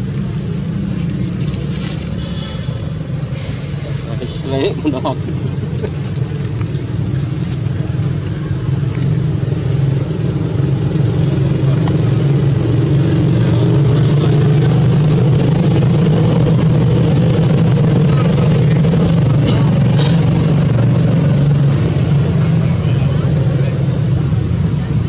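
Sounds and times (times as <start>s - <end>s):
motor engine droning: 0.0s - 25.0s.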